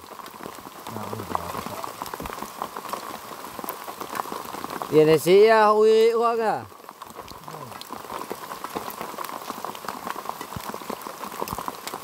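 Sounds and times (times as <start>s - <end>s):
heavy rain on a tarpaulin: 0.0s - 12.0s.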